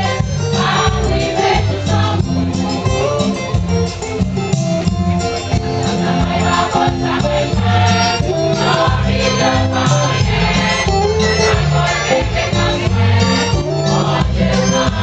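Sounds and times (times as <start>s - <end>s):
gospel voices singing: 0.0s - 2.9s, 5.6s - 15.0s
bass line: 0.0s - 15.0s
percussion beat: 0.0s - 15.0s.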